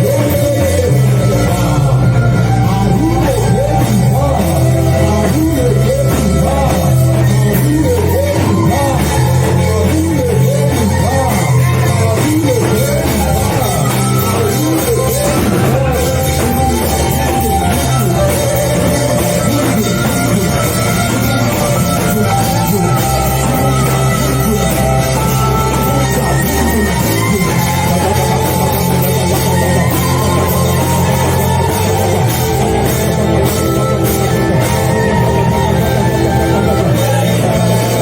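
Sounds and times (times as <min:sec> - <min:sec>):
wavering melody: 0:00.0 - 0:38.0.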